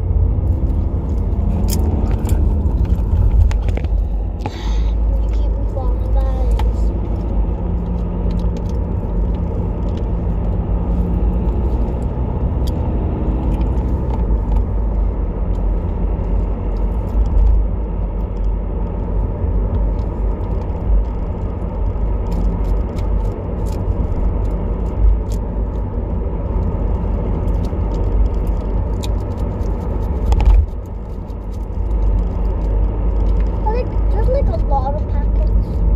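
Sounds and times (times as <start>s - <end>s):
low rumble of engine and road: 0.0s - 35.9s.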